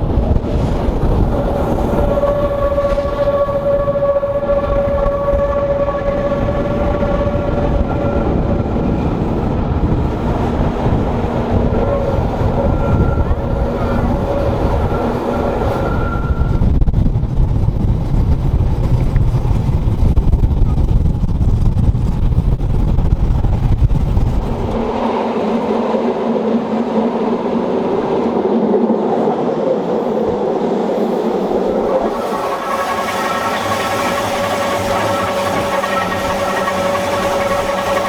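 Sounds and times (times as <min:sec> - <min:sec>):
train running: 0:00.0 - 0:38.0.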